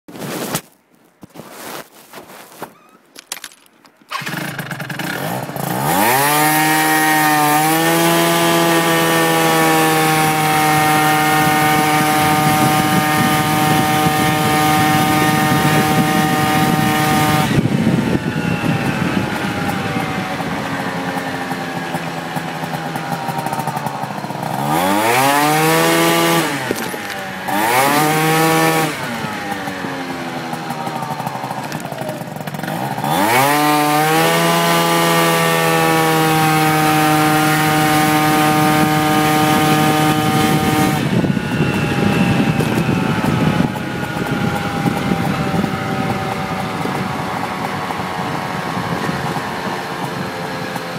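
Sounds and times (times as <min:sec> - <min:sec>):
scooter engine revving: 0:04.0 - 0:50.9.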